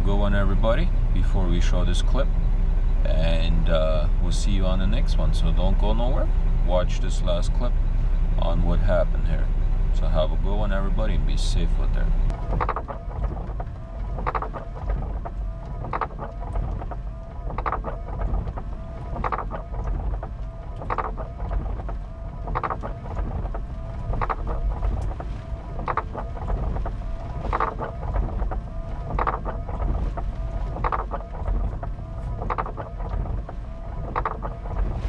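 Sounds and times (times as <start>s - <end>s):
heavy rain and wind on truck cab: 0.0s - 35.0s
windshield wiper sweeping: 0.0s - 35.0s.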